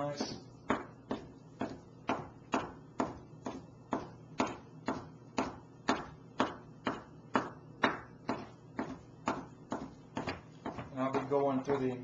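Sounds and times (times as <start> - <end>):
knife chopping on wooden board: 0.0 - 12.0.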